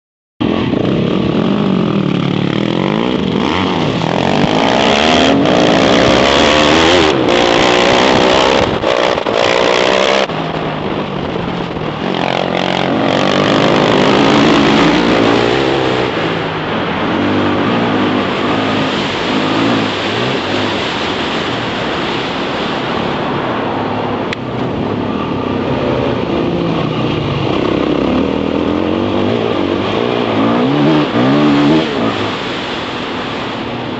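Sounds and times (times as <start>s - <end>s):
dirt bike engine revving: 0.4s - 10.7s, 11.6s - 23.0s, 25.1s - 33.7s
wind noise on microphone: 0.4s - 33.9s.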